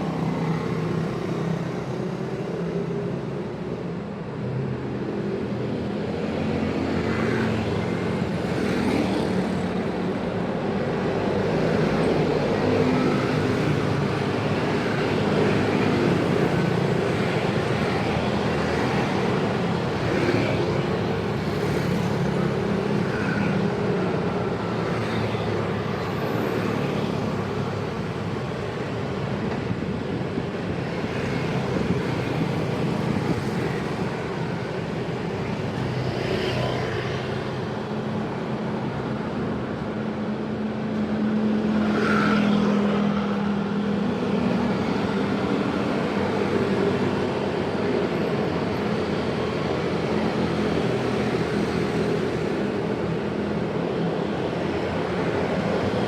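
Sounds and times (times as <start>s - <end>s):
road traffic engines: 0.0s - 56.0s.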